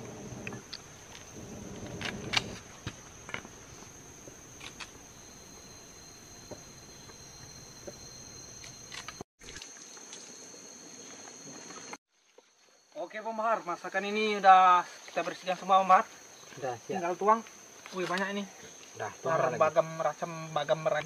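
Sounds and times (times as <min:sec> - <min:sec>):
high-pitched insect whine: 0:00.0 - 0:21.0
lower insect tone: 0:00.0 - 0:21.0.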